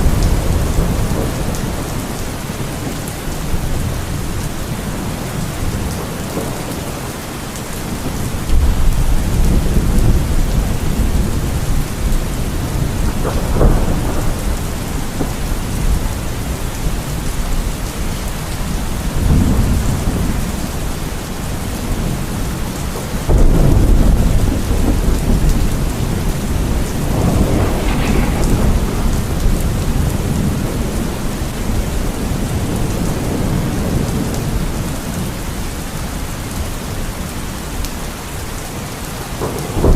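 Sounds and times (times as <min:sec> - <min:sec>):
thunder rumbling: 0:00.0 - 0:07.1, 0:07.8 - 0:35.3, 0:39.3 - 0:39.9
heavy rain: 0:00.0 - 0:39.9.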